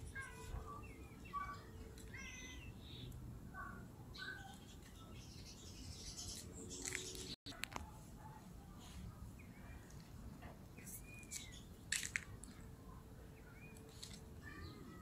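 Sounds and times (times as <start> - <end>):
faint birds chirping: 0.0 - 15.0
low outdoor hum: 0.0 - 15.0.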